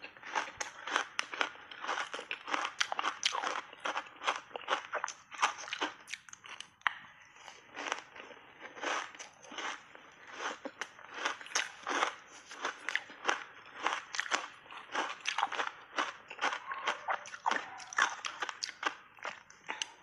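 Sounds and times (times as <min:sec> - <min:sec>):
crunching and chewing ice: 0:00.0 - 0:20.0.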